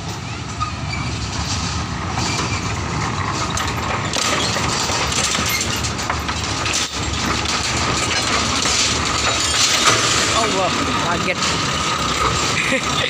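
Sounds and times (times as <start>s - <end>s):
diesel locomotive engine rumble: 0.0s - 13.0s
metallic clicks from wagons: 0.0s - 13.0s.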